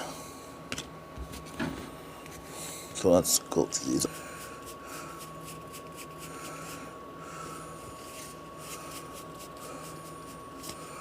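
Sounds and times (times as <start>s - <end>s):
faint electrical whine and hum: 0.0s - 11.0s.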